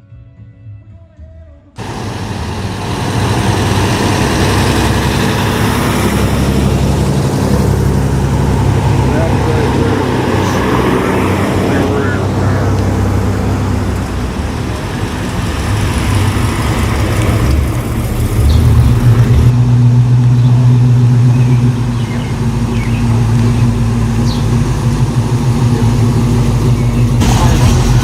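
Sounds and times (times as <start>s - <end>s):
car engine idling: 1.8s - 28.0s.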